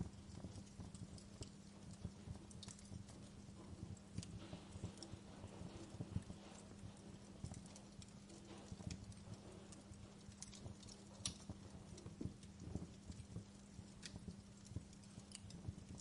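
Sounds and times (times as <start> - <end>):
steady low hum: 0.0 - 16.0
wood fire crackling and popping: 0.0 - 16.0.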